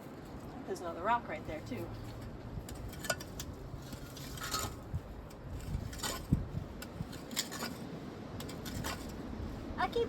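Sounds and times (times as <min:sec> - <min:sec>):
hand tool scraping dirt: 0:01.4 - 0:09.7.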